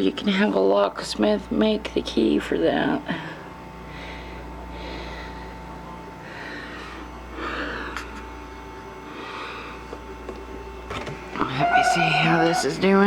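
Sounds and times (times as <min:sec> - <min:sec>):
cooler hum: 0:00.0 - 0:13.0.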